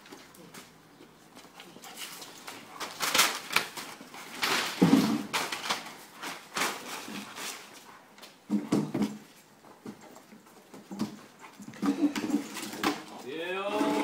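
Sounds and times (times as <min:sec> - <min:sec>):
scuffling noises: 0:00.0 - 0:14.0.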